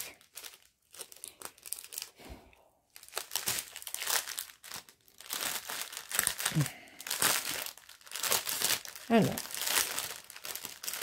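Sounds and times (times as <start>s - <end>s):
plastic wrapper crinkling: 0.0s - 2.3s, 2.9s - 11.0s.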